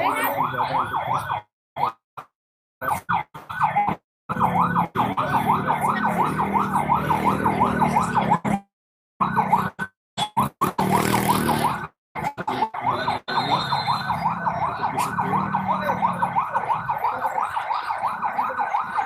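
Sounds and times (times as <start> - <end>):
siren yelping: 0.0 - 2.0, 2.8 - 8.6, 9.2 - 19.0.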